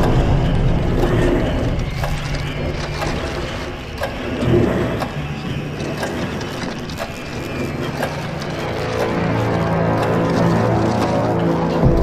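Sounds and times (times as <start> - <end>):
low hum: 0.0 - 12.0
mechanical clicks and ticks: 0.0 - 12.0.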